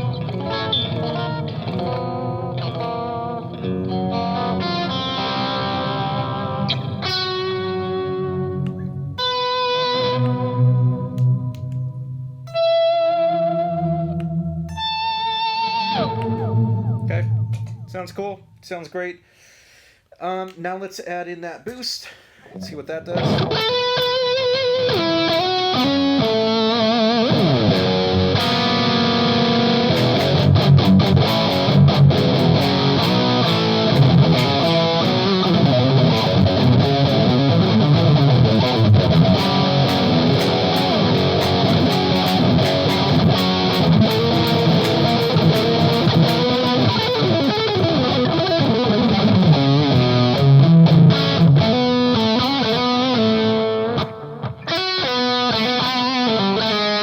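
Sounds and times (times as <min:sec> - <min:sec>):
distorted electric guitar: 0:00.0 - 0:18.6, 0:23.1 - 0:57.0.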